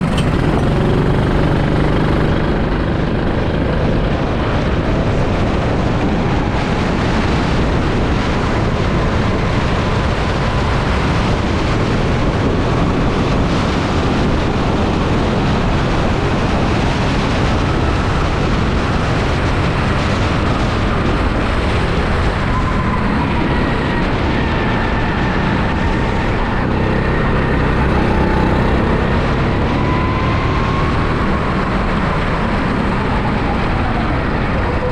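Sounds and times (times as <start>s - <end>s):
go-kart engine running: 0.0s - 34.9s.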